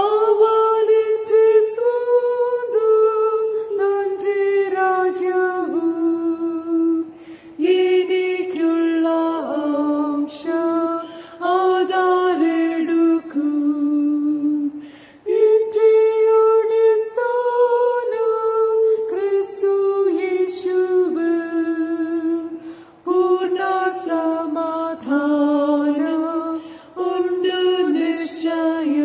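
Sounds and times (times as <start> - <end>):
person singing a hymn: 0.0 - 29.0.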